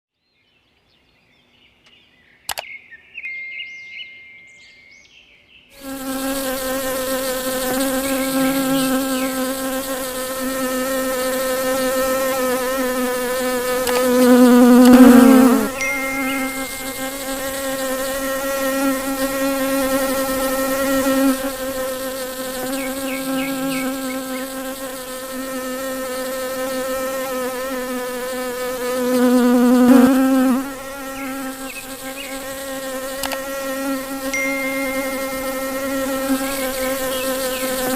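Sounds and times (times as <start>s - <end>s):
honey bee buzzing: 5.8s - 37.9s.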